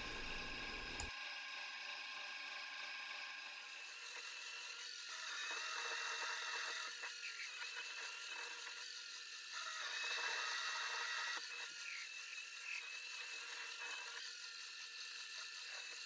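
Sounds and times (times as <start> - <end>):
lathe motor and spindle whine: 0.0 - 16.0.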